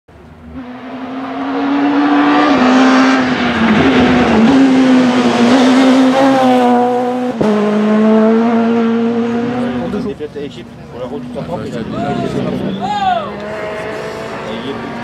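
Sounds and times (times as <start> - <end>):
rally car engine at high revs: 0.4 - 10.2, 11.2 - 15.0.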